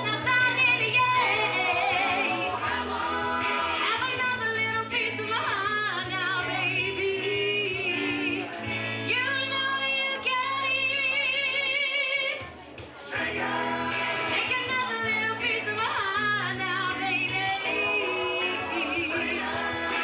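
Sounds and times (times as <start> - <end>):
musical accompaniment: 0.0 - 9.8, 10.4 - 20.0
woman singing with vibrato: 0.0 - 12.4, 13.1 - 20.0.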